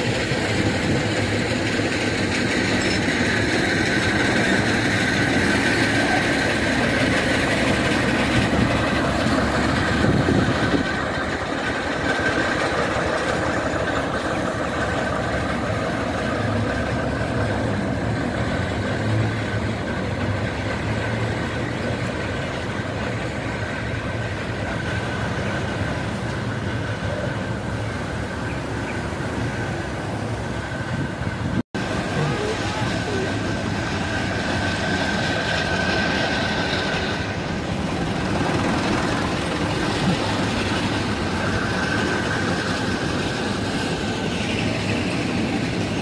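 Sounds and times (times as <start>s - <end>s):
diesel locomotive engine hum: 0.0s - 46.0s.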